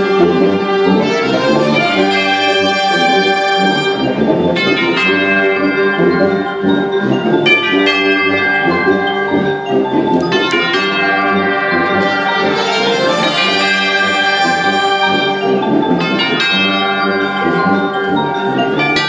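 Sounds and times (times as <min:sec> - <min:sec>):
live ensemble music: 0:00.0 - 0:19.0
percussion accents: 0:00.0 - 0:19.0.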